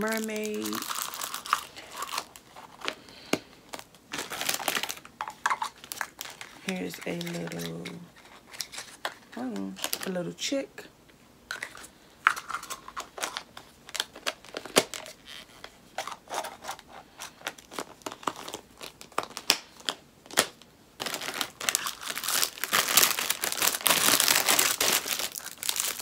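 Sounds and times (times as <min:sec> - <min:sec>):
packaging crinkling: 0:00.0 - 0:10.1, 0:11.5 - 0:26.0.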